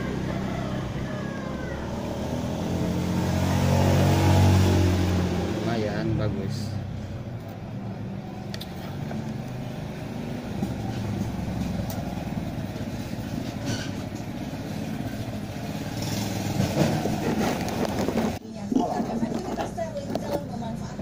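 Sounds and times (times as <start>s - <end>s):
vehicle engine running: 0.0s - 18.4s.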